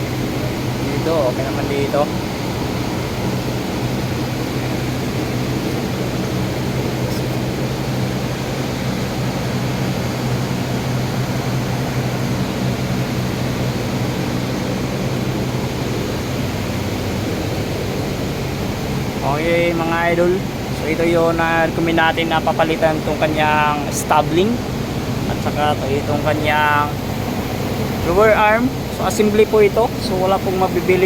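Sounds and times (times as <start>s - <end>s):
mechanical hum with low drone: 0.0s - 31.0s.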